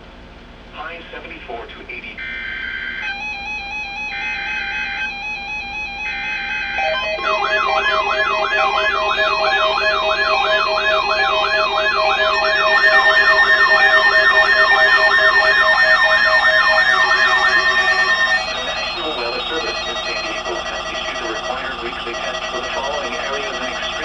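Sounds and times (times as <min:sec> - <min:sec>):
buzzy data bursts: 0:03.0 - 0:24.0
warbling alert alarm tone: 0:03.0 - 0:24.0.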